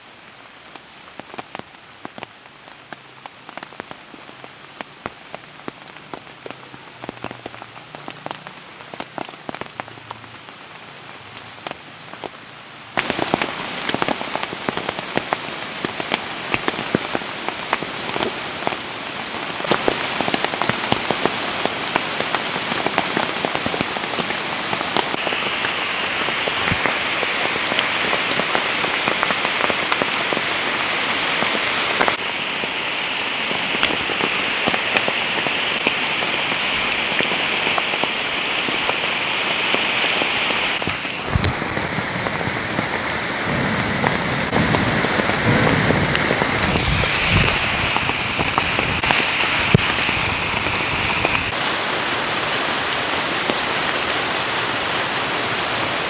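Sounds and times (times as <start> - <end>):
rain falling: 0.0 - 56.0
raindrops ticking close by: 0.0 - 56.0.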